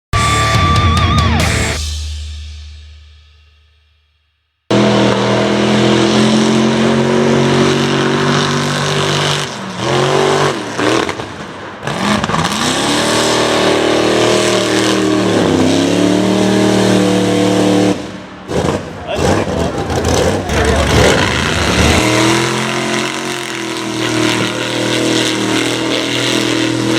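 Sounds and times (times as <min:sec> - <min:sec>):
truck engine at high revs: 0:04.7 - 0:26.9.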